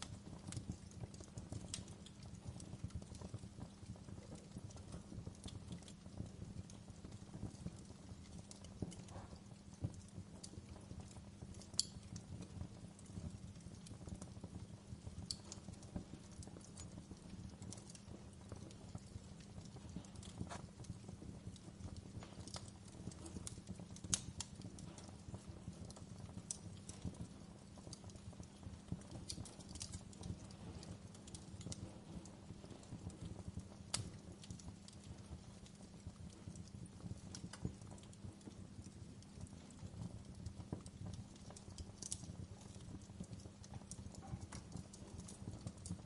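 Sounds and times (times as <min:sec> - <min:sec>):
fire crackling in fireplace: 0:00.0 - 0:46.0.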